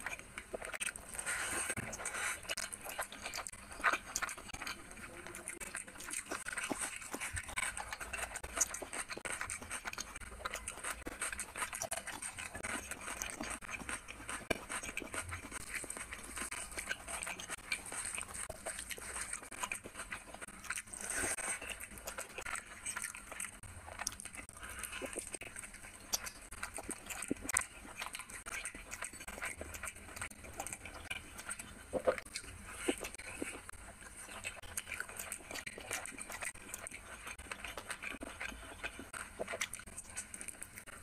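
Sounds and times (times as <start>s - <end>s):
person chewing and lip-smacking: 0.0s - 41.0s
wet squelches of fingers mixing food: 0.0s - 41.0s.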